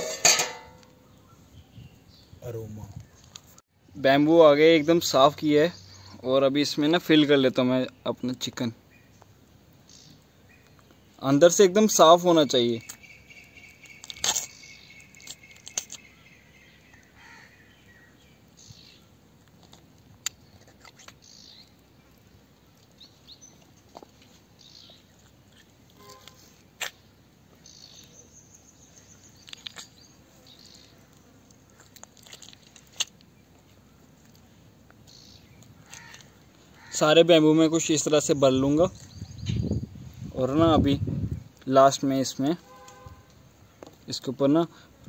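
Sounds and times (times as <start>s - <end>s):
birds chirping: 0.0s - 44.7s.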